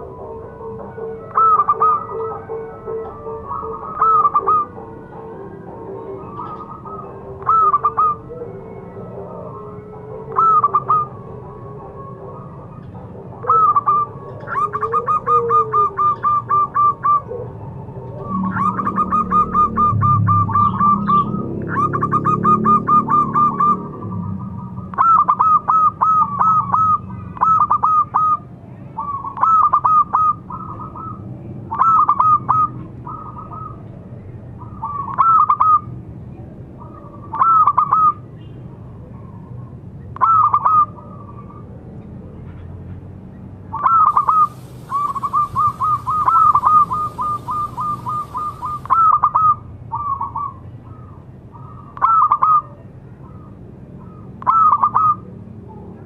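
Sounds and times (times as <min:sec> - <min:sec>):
dove cooing: 0:00.0 - 0:33.9, 0:36.8 - 0:38.2, 0:38.9 - 0:41.7, 0:43.7 - 0:56.0.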